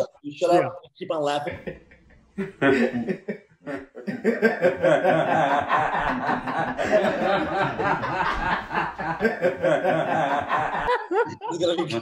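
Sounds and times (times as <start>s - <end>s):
men laughing: 1.4s - 12.0s.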